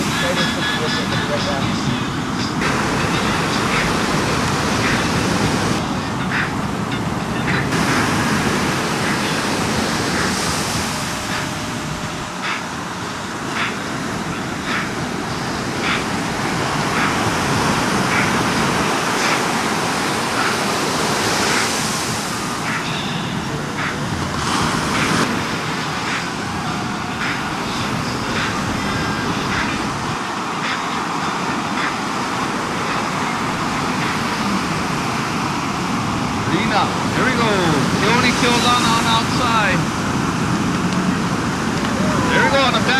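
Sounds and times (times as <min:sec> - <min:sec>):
ocean surf breaking: 0:00.0 - 0:42.9
wind buffeting microphone: 0:00.0 - 0:42.9.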